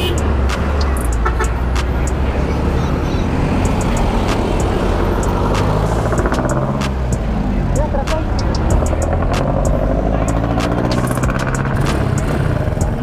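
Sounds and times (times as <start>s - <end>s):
vehicle engines rumbling: 0.0s - 13.0s
vehicle pulling away: 0.2s - 13.0s.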